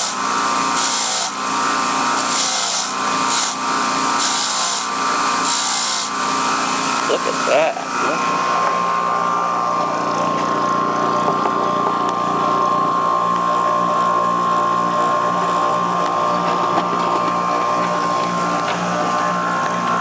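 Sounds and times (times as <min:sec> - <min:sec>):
bench grinder whining: 0:00.0 - 0:20.0.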